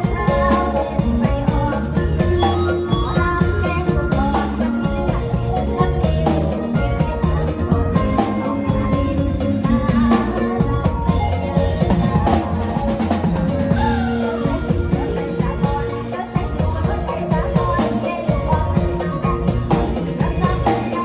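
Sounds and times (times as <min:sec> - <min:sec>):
drum kit beat: 0:00.0 - 0:21.0
electronic keyboard melody: 0:00.0 - 0:21.0.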